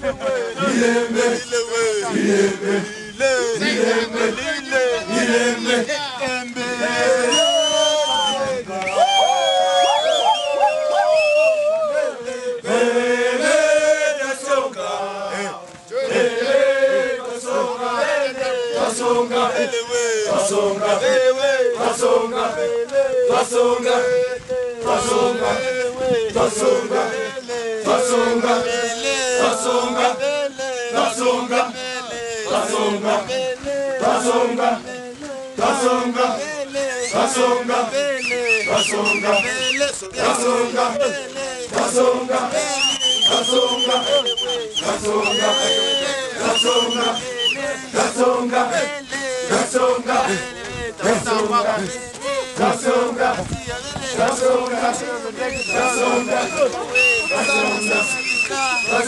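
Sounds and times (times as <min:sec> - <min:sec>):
men chanting in rhythm: 0:00.0 - 0:59.0.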